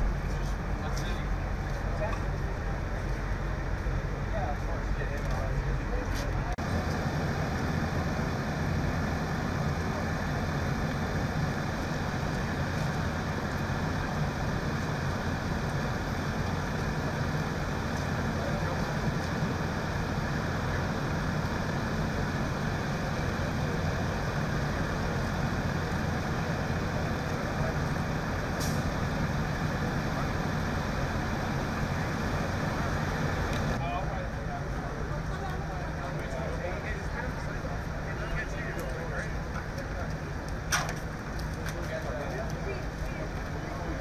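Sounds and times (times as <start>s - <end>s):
vehicle engines idling: 0.0s - 44.0s.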